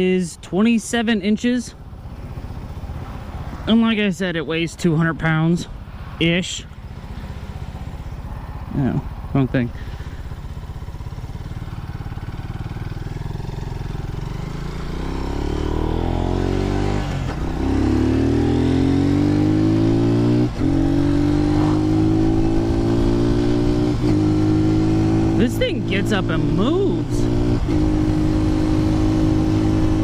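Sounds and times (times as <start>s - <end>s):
motorcycle engine accelerating: 0.9s - 30.0s.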